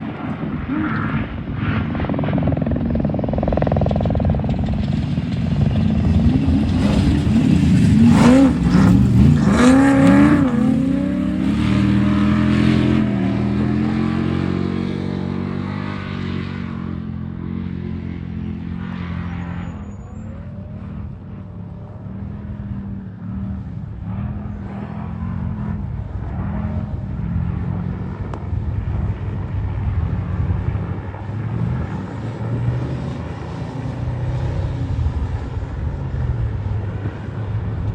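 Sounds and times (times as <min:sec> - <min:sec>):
truck engine revving past: 0:00.0 - 0:37.9.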